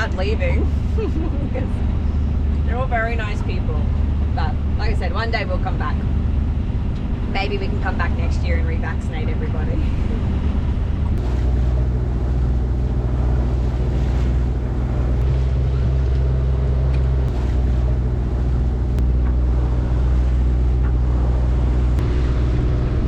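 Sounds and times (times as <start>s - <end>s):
boat engine droning: 0.0s - 23.0s
wind buffeting microphone: 0.0s - 23.0s.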